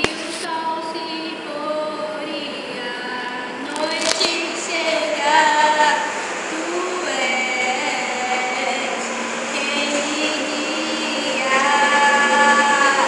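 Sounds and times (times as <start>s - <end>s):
woman singing long notes: 0.0s - 13.0s.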